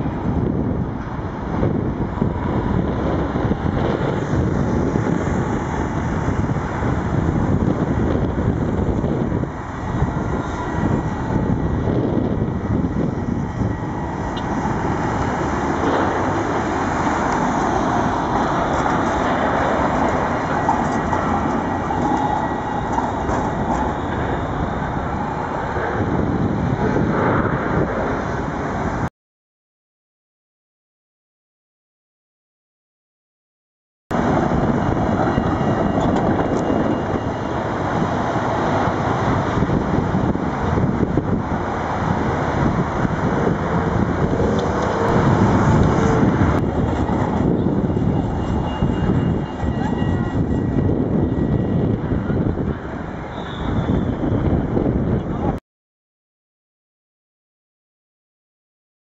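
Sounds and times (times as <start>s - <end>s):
road traffic passing: 0.0s - 29.1s, 34.1s - 55.6s
trams passing: 0.0s - 29.1s, 34.1s - 55.6s
wind rumbling on microphone: 0.0s - 29.1s, 34.1s - 55.6s.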